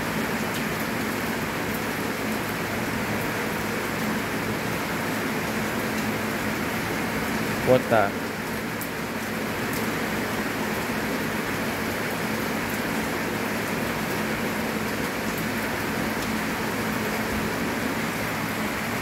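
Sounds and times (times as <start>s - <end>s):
rain on concrete: 0.0s - 19.0s.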